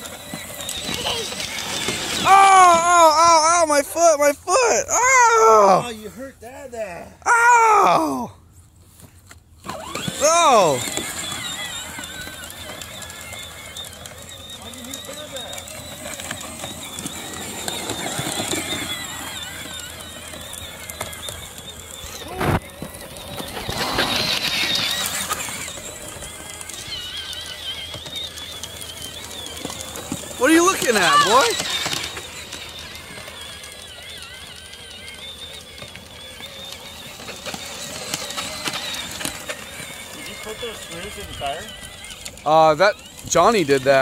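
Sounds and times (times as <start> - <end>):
toy tractor motor whine: 0.0 - 44.0
wheels crackling and rattling on grass: 0.0 - 44.0.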